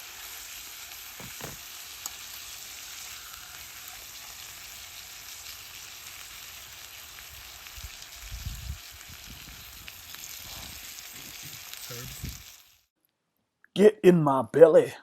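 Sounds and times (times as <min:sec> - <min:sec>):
food sizzling in a frying pan: 0:00.0 - 0:12.9.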